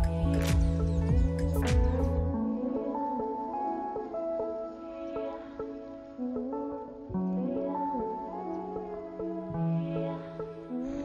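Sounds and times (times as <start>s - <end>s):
soft gentle background music: 0.0s - 11.0s.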